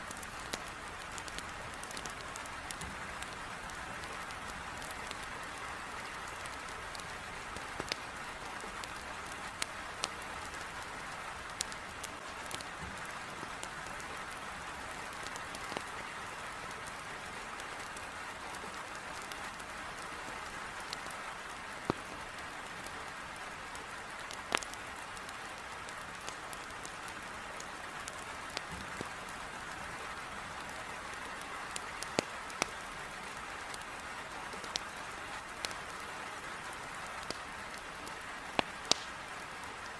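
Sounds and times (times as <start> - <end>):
heavy rain on a window: 0.0 - 39.9
wood fire crackling and popping: 0.0 - 39.9.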